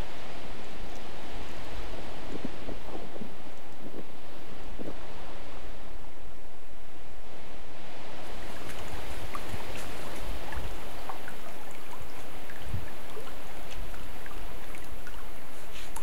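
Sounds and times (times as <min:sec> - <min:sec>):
small river trickling: 0:00.0 - 0:05.8, 0:07.6 - 0:16.0
wind rumbling on microphone: 0:00.0 - 0:16.0.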